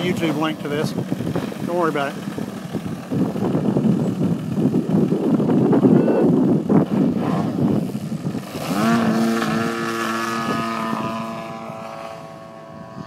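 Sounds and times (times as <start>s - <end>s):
model airplane engine and propeller: 0.0s - 13.0s.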